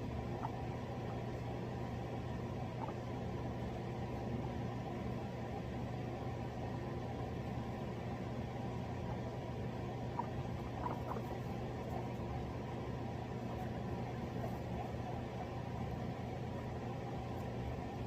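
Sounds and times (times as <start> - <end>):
guinea pig squeaks: 0.0 - 4.6, 7.1 - 18.0
low hum and hiss: 0.0 - 18.0.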